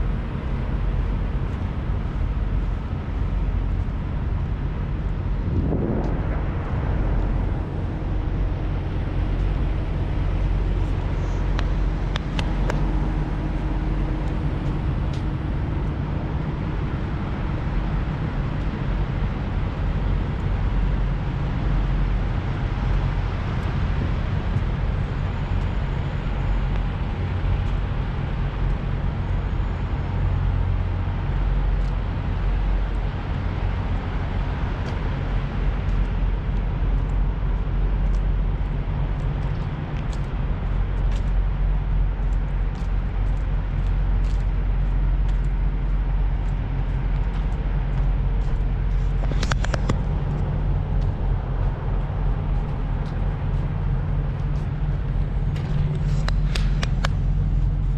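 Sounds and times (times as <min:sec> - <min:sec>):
idling diesel truck engines: 0:00.0 - 0:57.9.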